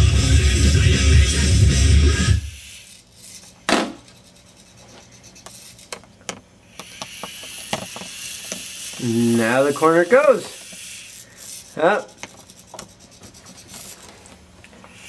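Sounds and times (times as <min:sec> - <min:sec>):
robot motors and tracks on carpet: 0:02.5 - 0:15.0.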